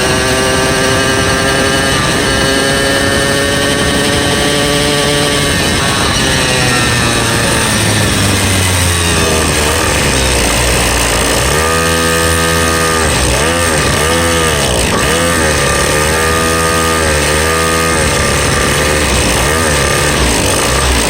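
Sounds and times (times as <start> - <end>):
small petrol engine revving: 0.0 - 21.0
wind noise on microphone: 0.0 - 21.0.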